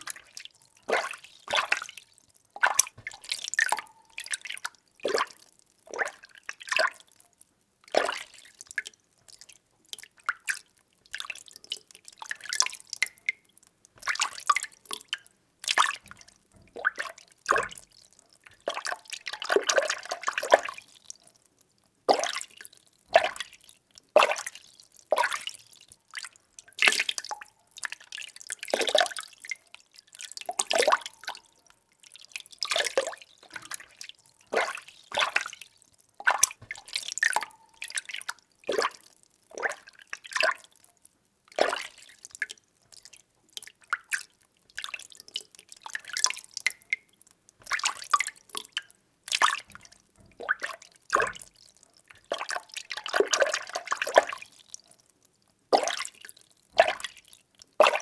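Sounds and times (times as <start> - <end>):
water sloshing in a container: 0.0 - 7.2, 7.8 - 21.4, 22.0 - 58.0.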